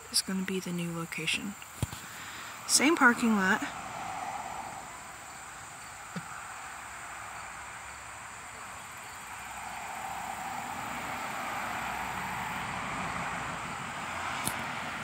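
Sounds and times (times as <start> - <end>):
insects chirping: 0.0 - 15.0
vehicle approaching: 0.0 - 15.0.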